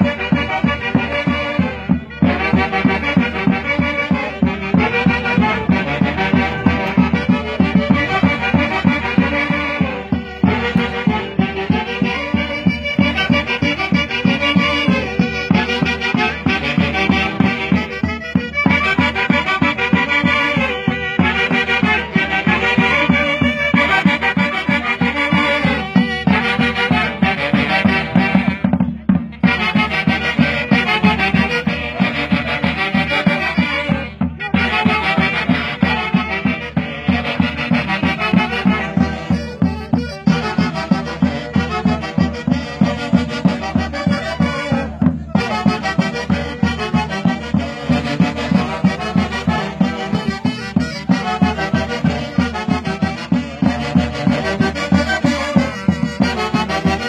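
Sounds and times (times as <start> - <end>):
steady drum beat: 0.0 - 57.0
wind instruments melody: 0.0 - 57.0.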